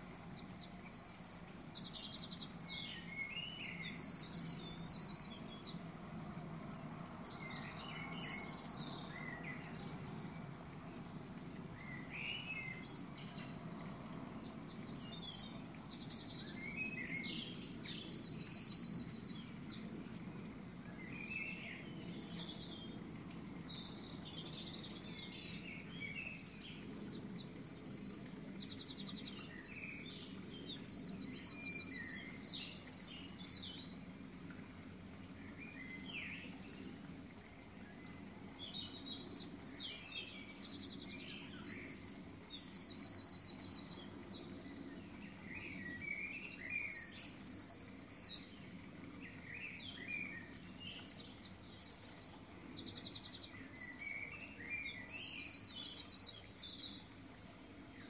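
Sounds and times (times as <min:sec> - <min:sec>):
songbird chirps and trills: 0:00.0 - 0:58.0.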